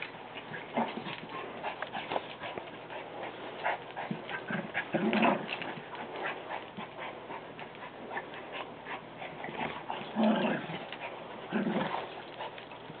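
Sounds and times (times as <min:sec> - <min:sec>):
dogs scuffling and clicking: 0:00.0 - 0:13.0.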